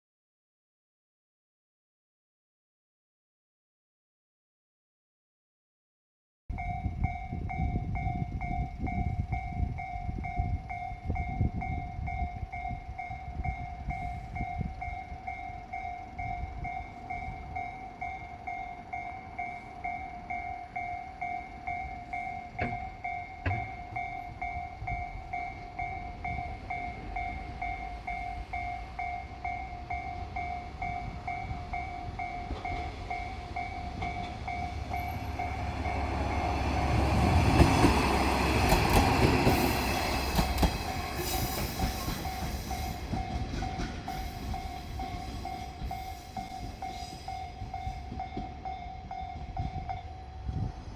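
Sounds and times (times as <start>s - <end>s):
diesel train engine rumble: 6.5s - 50.9s
level crossing warning bell ringing: 6.5s - 50.9s
train wheels clacking on rail joints: 6.6s - 50.9s.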